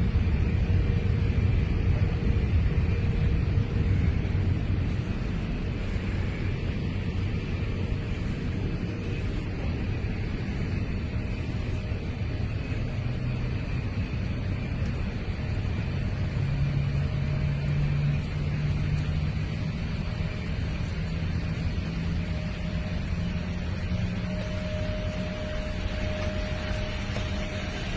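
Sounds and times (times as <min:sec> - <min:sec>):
faint high whine: 0:00.0 - 0:27.9
jet airliner rumble: 0:00.0 - 0:27.9.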